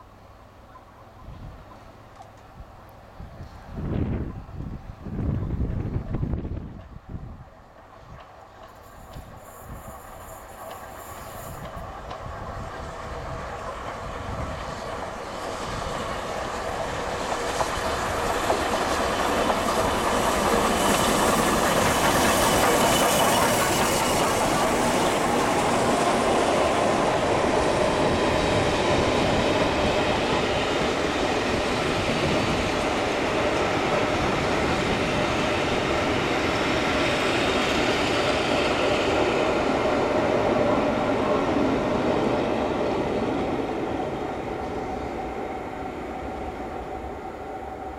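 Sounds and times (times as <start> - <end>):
train wheels on rails: 0.8 - 47.9.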